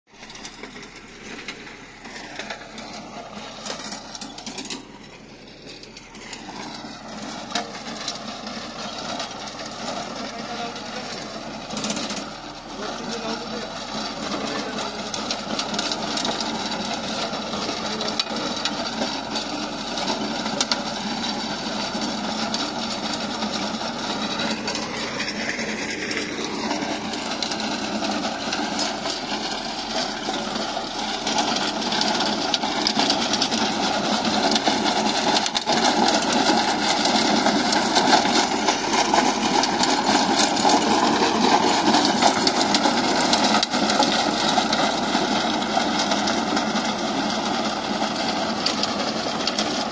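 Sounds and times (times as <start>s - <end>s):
rotary tiller churning soil: 0.1s - 49.9s
tractor diesel engine: 0.1s - 49.9s.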